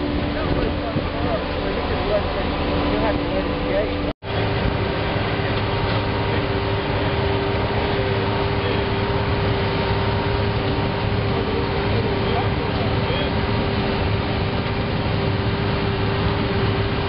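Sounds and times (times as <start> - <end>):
plant machinery running: 0.0 - 17.0.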